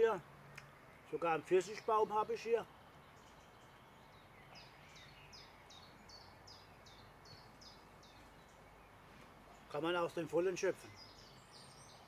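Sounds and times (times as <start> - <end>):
faint bird song: 0.0 - 12.0.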